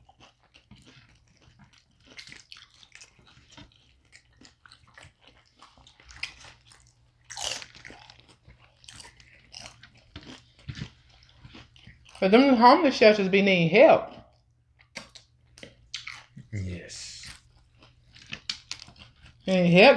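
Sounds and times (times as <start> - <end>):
person chewing crunchy food: 0.0 - 12.2, 14.1 - 19.5.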